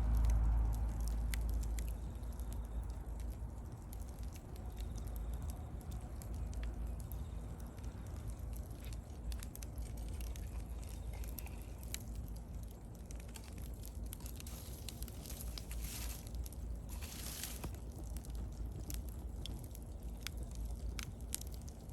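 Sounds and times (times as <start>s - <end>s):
bonfire crackling and popping: 0.0s - 21.9s
low fire rumble: 0.0s - 21.9s.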